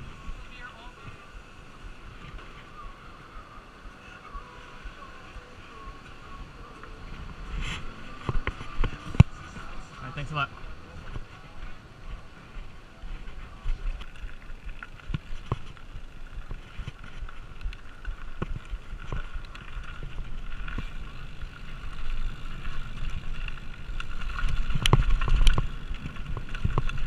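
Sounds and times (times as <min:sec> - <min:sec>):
bike rattling over bumps: 0:00.0 - 0:27.0
tyres running over dirt and gravel: 0:00.0 - 0:27.0
wind on microphone: 0:00.0 - 0:27.0.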